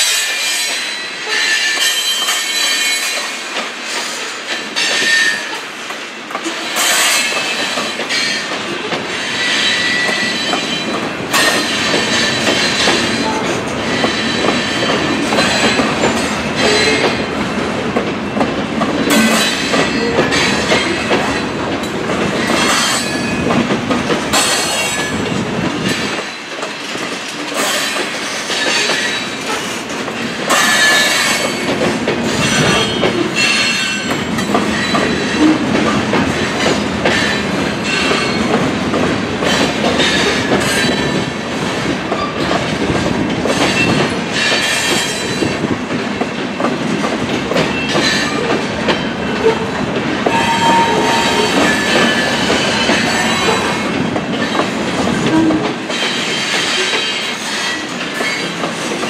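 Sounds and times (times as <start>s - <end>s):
steel wheels rumbling on rails: 0.0s - 59.0s
wheels clicking over rail joints: 1.8s - 59.0s.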